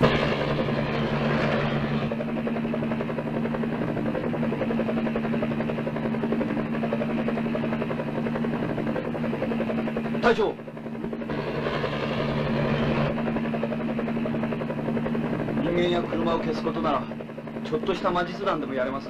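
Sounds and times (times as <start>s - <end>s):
helicopter engine drone: 0.0s - 19.0s
helicopter rotor chop: 0.0s - 19.0s.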